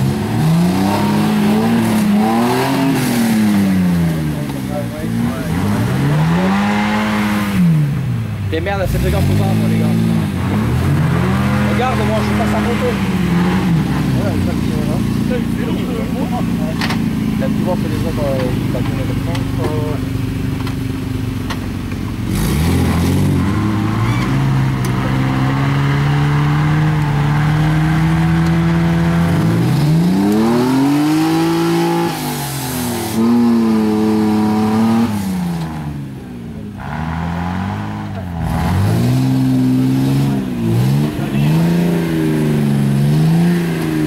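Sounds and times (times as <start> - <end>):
car engine revving hard: 0.0 - 20.3, 22.1 - 44.0.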